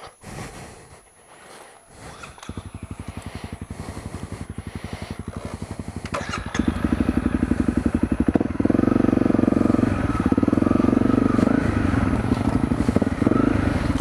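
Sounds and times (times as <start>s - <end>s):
motorcycle engine idling and revving: 1.9s - 14.0s.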